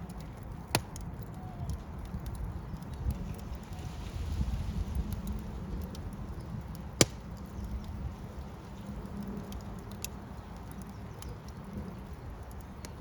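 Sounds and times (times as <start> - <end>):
fire popping and snapping: 0.0 - 13.0
low rush of flames: 0.0 - 13.0.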